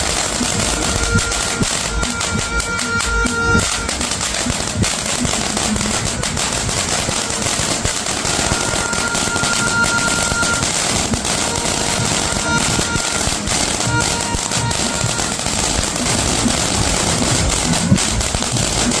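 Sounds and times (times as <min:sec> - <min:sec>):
background music: 0:00.0 - 0:19.0
fountain firework hissing and crackling: 0:03.6 - 0:19.0.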